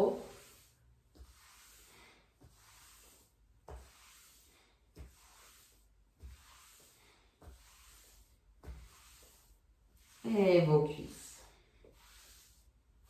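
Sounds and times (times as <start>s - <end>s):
hands rubbing along leg: 0.0s - 12.8s.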